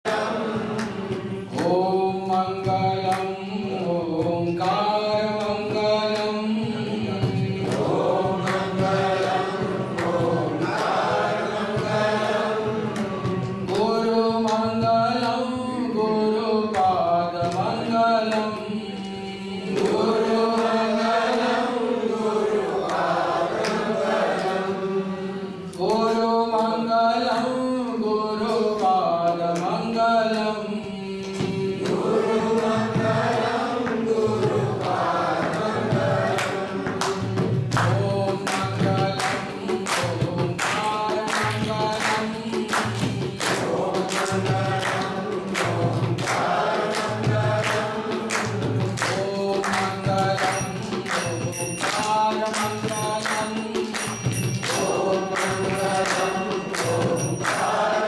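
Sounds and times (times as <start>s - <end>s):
man chanting into a microphone: 0.0s - 10.8s, 11.4s - 21.0s, 24.8s - 58.0s.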